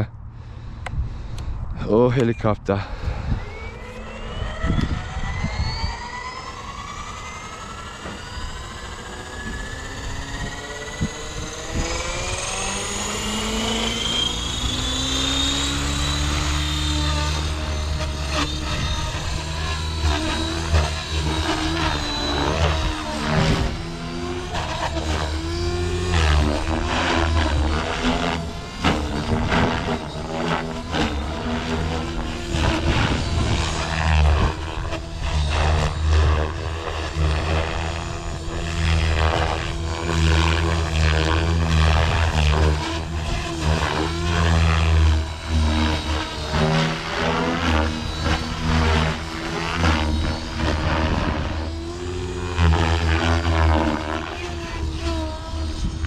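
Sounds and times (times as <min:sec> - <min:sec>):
helicopter rotor chop: 0:00.0 - 0:56.0
electric motor whine: 0:02.1 - 0:56.0.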